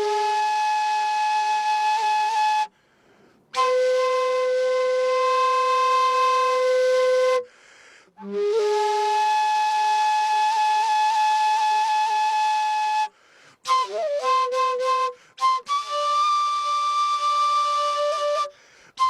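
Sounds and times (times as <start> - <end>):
duct flute long held notes: 0.0 - 2.8, 3.5 - 7.5, 8.2 - 18.6.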